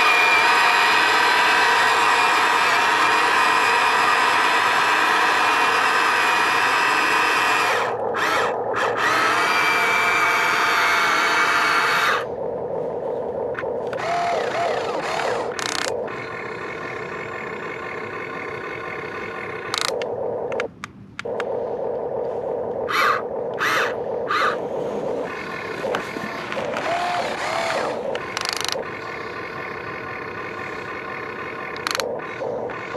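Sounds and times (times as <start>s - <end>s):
toy excavator motors whining: 0.0s - 32.9s.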